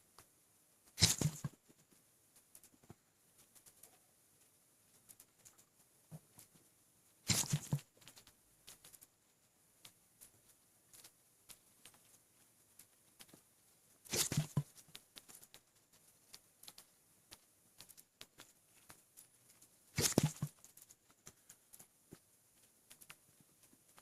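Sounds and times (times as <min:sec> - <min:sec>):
faint clicks: 0:00.1 - 0:06.7, 0:07.3 - 0:24.0.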